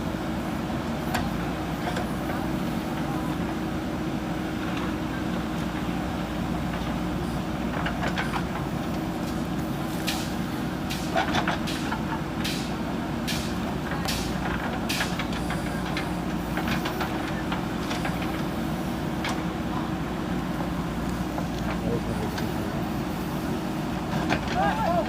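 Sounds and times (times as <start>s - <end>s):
diesel engine under load: 0.0s - 25.0s.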